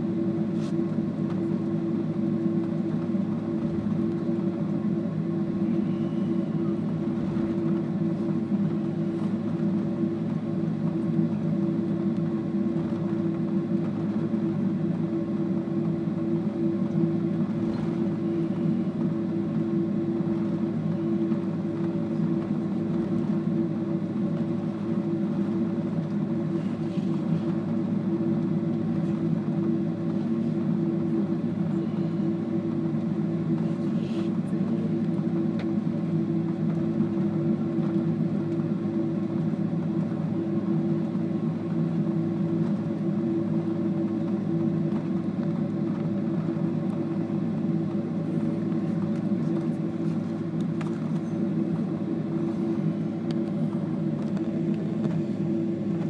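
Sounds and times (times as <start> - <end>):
jet cabin engine hum: 0.0 - 56.0.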